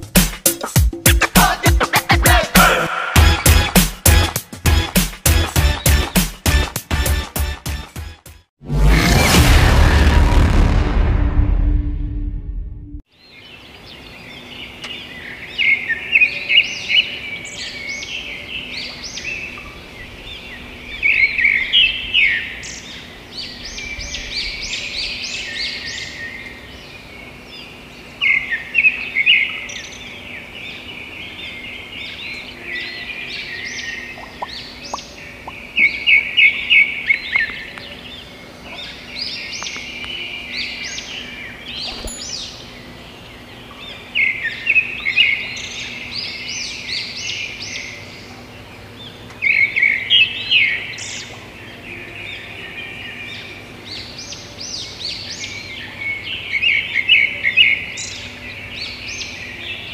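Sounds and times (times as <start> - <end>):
birds chirping and calling: 1.0 - 6.3, 13.2 - 59.9.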